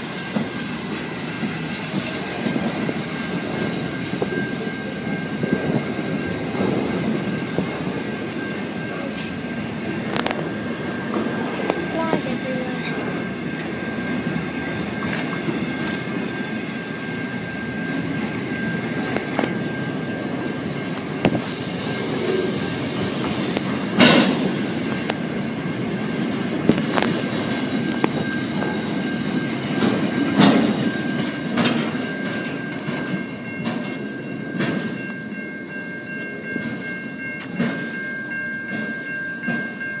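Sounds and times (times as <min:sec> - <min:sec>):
freight train rumble: 0:00.0 - 0:40.0
train wagons clanking: 0:00.0 - 0:40.0
train wheels clattering over rail joints: 0:00.0 - 0:40.0.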